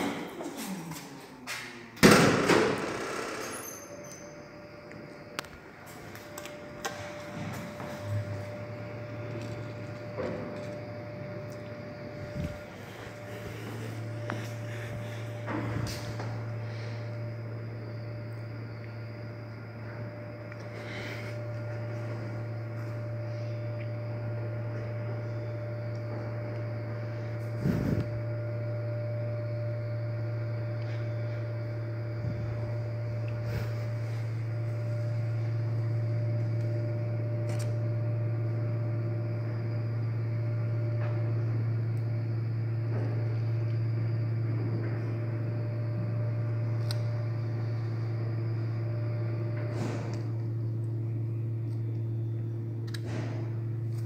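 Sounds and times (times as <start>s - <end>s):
lift electrical hum: 0.0s - 54.0s
thin high whine: 0.0s - 54.0s.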